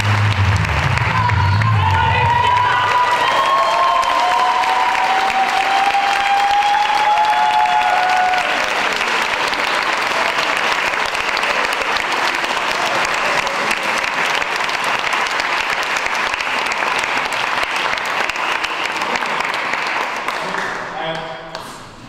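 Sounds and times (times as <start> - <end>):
audience applauding: 0.0 - 21.7.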